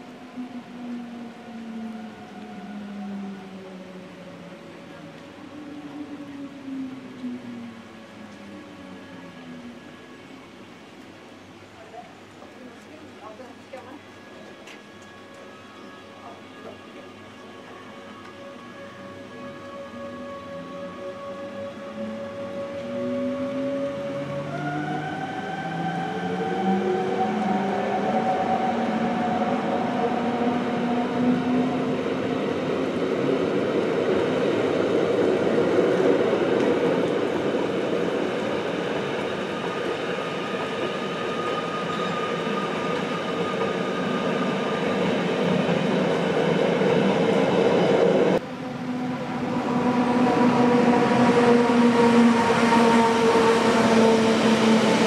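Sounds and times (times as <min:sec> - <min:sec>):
electric train whining: 0:00.0 - 0:55.0
train coaches rumbling: 0:00.0 - 0:55.0.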